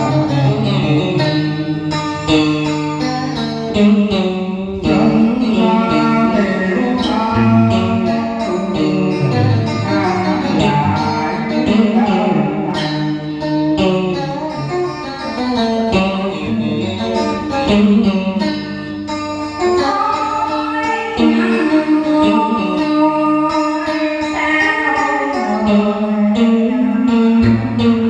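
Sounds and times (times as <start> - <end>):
flowing ballad melody: 0.0 - 28.0
guitar accompaniment: 0.0 - 28.0.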